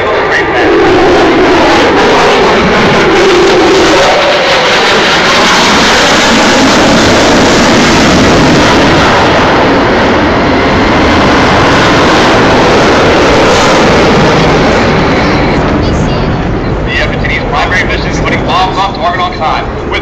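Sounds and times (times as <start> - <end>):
loud jet engine roar: 0.0 - 20.0.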